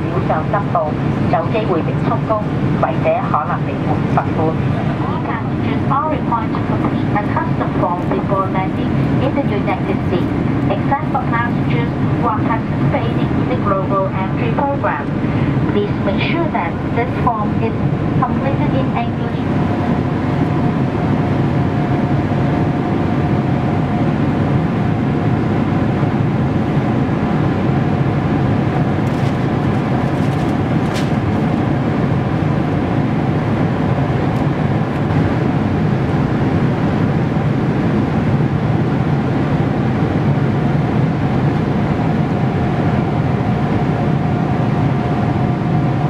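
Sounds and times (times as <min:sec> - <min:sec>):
cabin airflow rush: 0:00.0 - 0:46.0
jet engines humming: 0:00.0 - 0:46.0.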